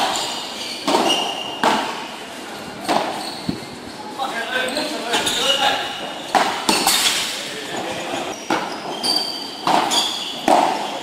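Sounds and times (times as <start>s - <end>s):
high squeaks: 0.1s - 1.6s, 2.8s - 3.7s, 4.6s - 11.0s.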